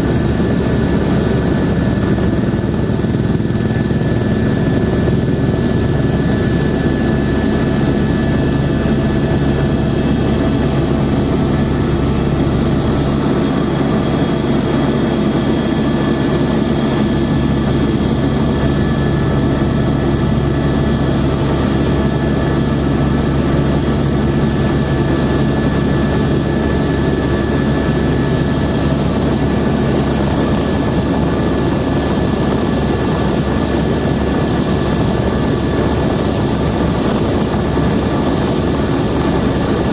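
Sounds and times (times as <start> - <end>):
helicopter turbine and rotor noise: 0.0 - 39.9.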